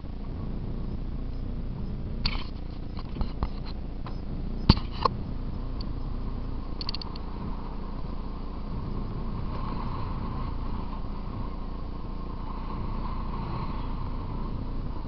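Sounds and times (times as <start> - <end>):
dirt bike engine droning: 0.0 - 15.0
road rumble: 0.0 - 15.0
wind noise on microphone: 0.0 - 15.0.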